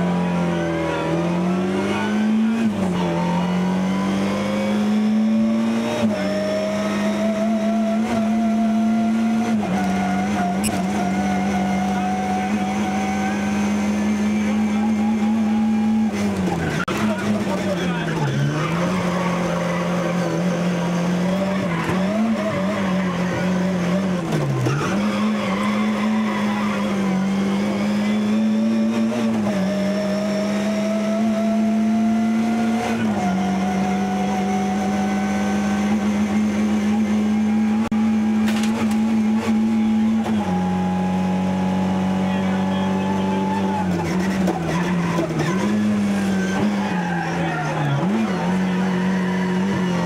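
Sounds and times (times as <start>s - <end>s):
rally car engine at hard throttle: 0.0s - 50.0s.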